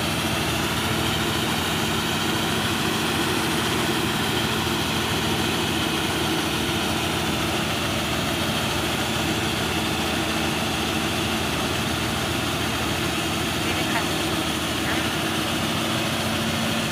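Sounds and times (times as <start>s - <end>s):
combine harvester droning: 0.0s - 16.9s.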